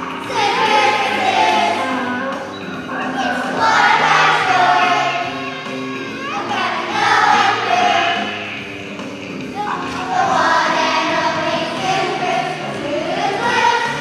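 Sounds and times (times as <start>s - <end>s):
children's choir singing: 0.0s - 14.0s
musical accompaniment: 0.0s - 14.0s.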